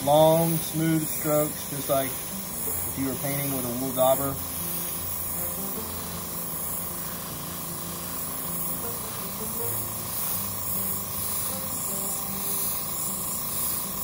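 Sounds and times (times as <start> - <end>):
airbrush hissing: 0.0 - 14.0.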